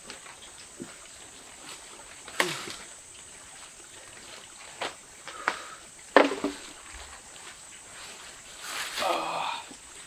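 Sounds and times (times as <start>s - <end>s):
faint hiss: 0.0s - 10.0s
high insect drone: 0.7s - 10.0s.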